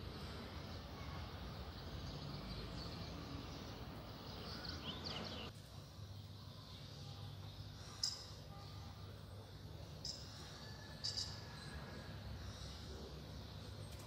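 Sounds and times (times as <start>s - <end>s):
steady low street hum: 0.0s - 14.0s.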